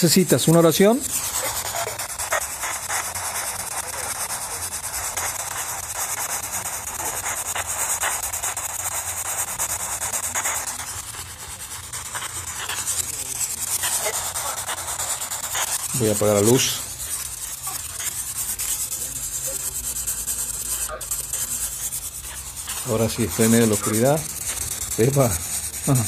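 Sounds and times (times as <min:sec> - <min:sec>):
steady high hiss: 0:00.0 - 0:26.0.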